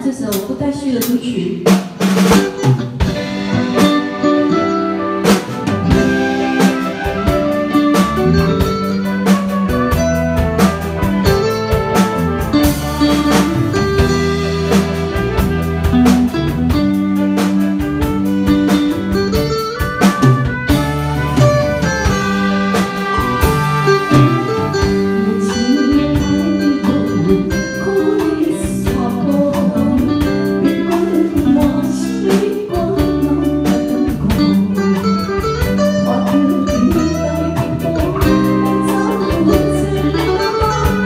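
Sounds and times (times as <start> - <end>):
drum kit steady beat: 0.0 - 41.0
electric bass: 1.6 - 41.0
electric guitar: 1.8 - 41.0.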